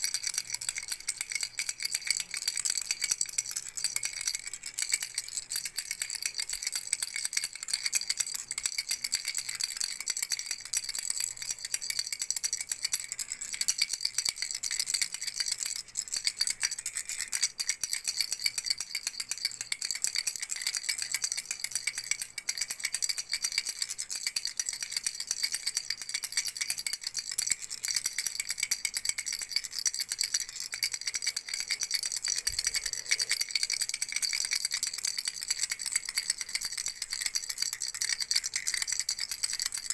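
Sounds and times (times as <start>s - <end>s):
baby rattle shaken: 0.0s - 9.6s, 11.3s - 39.9s.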